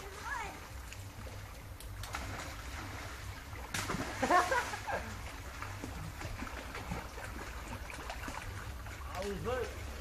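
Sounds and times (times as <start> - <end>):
steady low hum: 0.0 - 10.0
water splashing in pool: 0.0 - 10.0.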